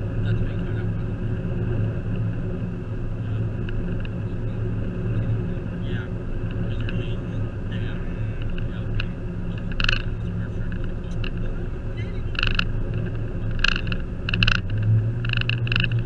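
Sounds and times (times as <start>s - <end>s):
engine and road drone in car cabin: 0.0s - 16.0s.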